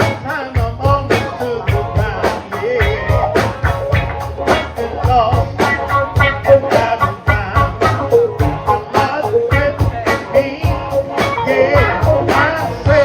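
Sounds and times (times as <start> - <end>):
drums playing quick beat: 0.0 - 13.0
wavering lead melody: 2.6 - 13.0.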